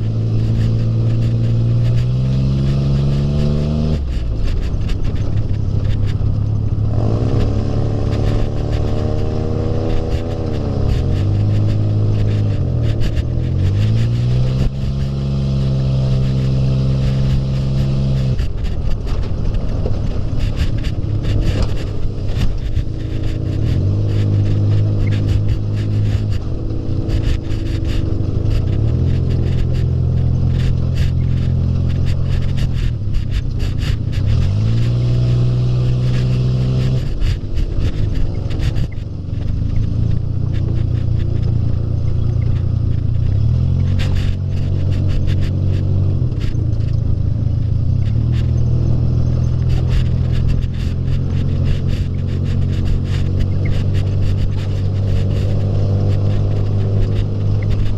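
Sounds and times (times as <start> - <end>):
buggy engine running: 0.0 - 57.9
knocks and rattles: 0.0 - 57.9.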